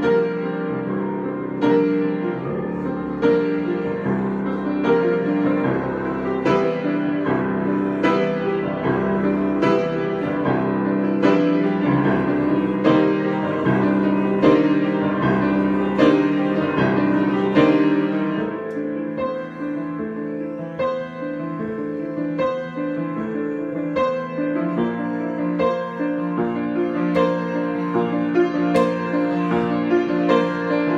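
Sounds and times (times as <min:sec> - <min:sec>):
piano chords: 0:00.0 - 0:30.9.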